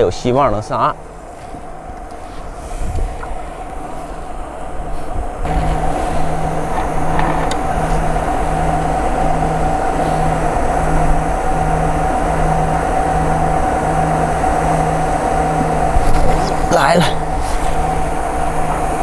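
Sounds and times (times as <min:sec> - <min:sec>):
pulsing low hum: 0:00.2 - 0:19.0
pond aerator motor whine: 0:00.7 - 0:19.0
low rumble: 0:00.8 - 0:19.0.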